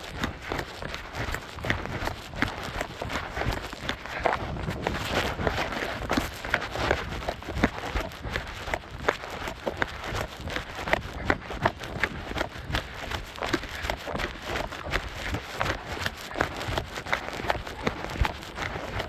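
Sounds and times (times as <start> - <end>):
running footsteps on dirt path: 0.0 - 19.0.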